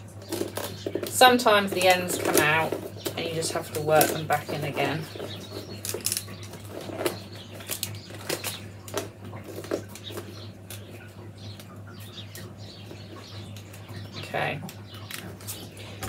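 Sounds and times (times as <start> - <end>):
steady low hum: 0.0 - 16.0
willow rods creaking and clicking: 0.0 - 16.0.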